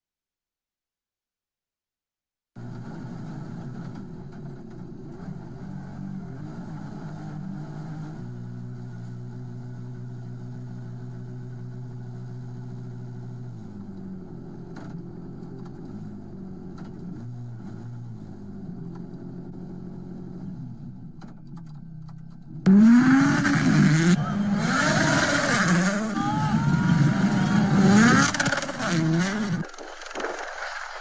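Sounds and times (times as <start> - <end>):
rally car engine revving hard: 2.6 - 20.8, 22.6 - 29.6
low engine drone: 2.6 - 31.0.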